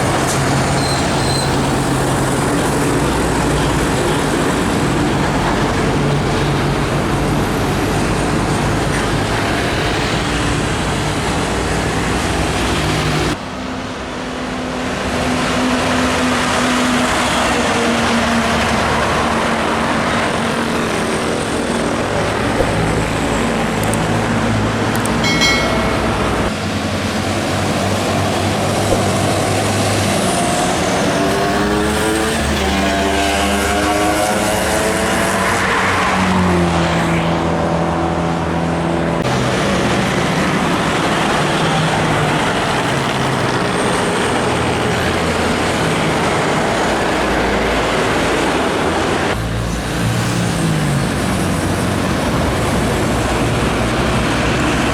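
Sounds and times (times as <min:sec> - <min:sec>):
diesel trucks passing: 0:00.0 - 0:54.9.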